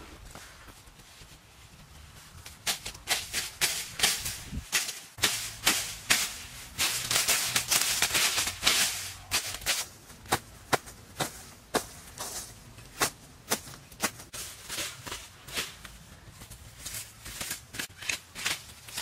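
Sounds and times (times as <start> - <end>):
leaves rustling: 0.0 - 19.0.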